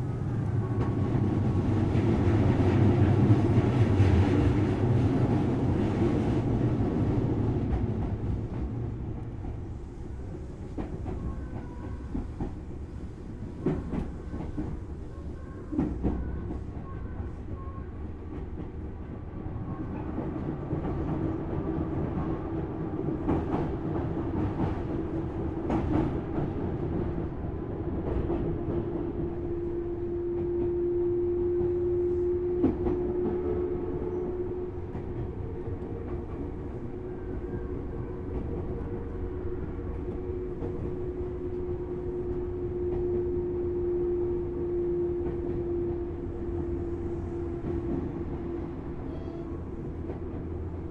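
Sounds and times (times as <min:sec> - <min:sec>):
train wheels rumbling on track: 0:00.0 - 0:50.9.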